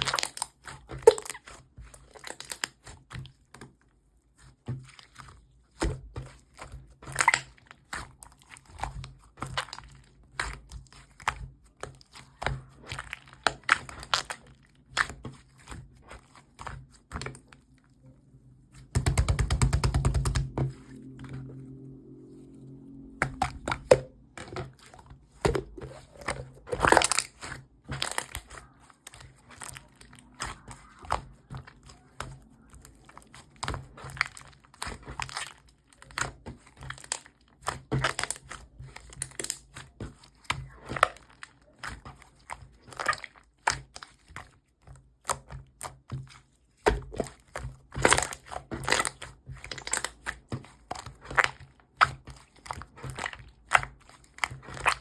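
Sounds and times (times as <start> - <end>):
crackling and crunching: 0.0 - 3.5, 4.5 - 55.0.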